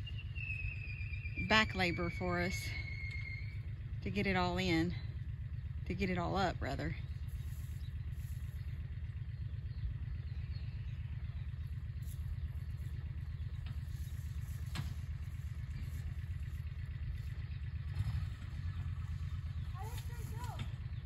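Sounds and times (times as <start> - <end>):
utility vehicle engine droning: 0.0 - 21.0.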